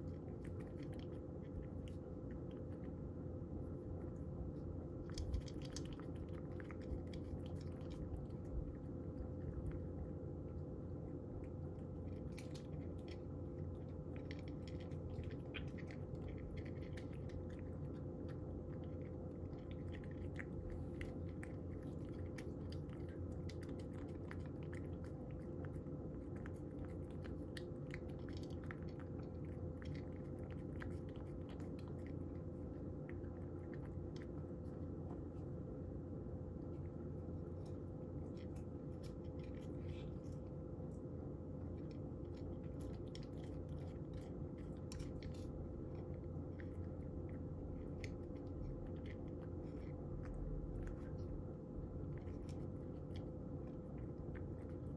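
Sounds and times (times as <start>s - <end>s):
cat crunching dry kibble: 0.0s - 54.9s
steady low hum: 0.0s - 54.9s.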